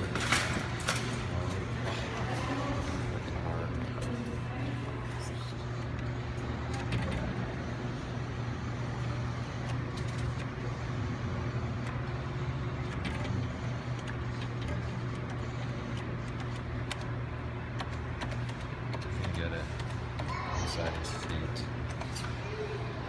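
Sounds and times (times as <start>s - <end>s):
arcade machines humming: 0.0s - 23.0s.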